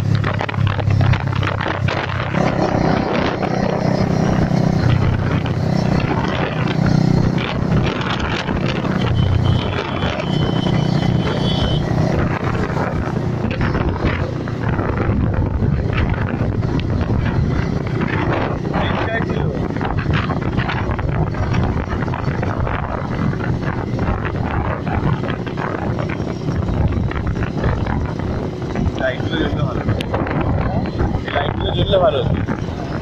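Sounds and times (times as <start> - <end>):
motorcycle engine revving: 0.0 - 33.0
wind noise on microphone: 0.0 - 33.0.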